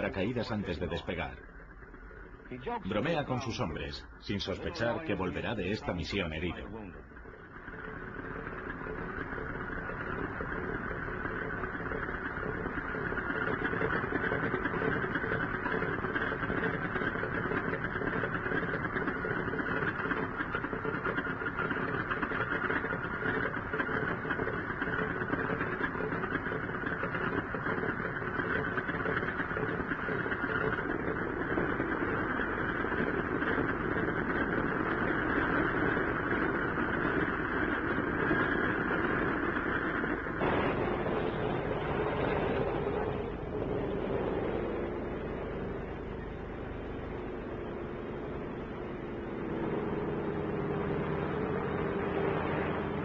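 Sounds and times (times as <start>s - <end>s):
propeller aircraft engine running: 0.0s - 53.0s.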